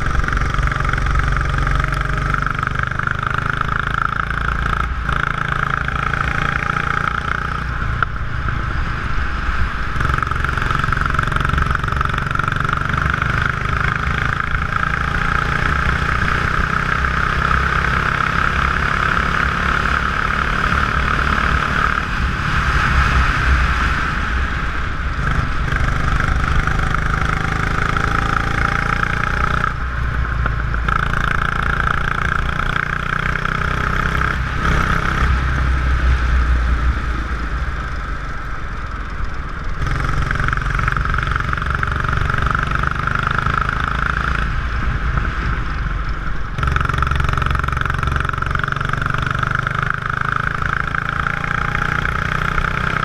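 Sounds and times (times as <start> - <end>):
go-kart engine running: 0.0 - 53.0.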